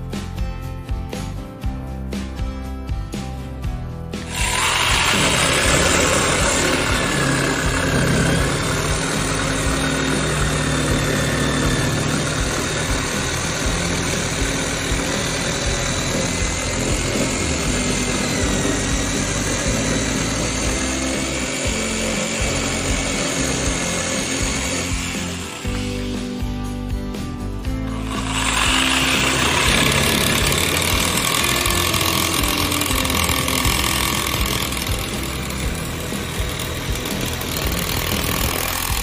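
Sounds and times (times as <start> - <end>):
electric jigsaw motor whine: 4.2 - 26.5, 27.8 - 39.0.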